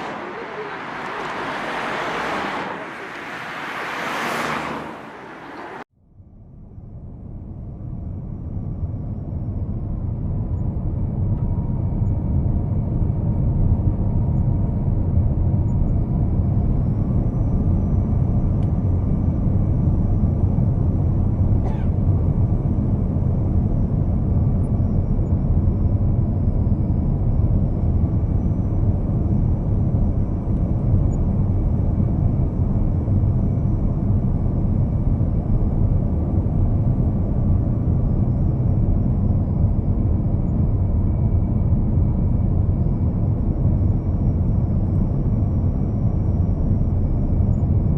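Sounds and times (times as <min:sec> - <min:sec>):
vehicle rumble: 0:00.0 - 0:47.9.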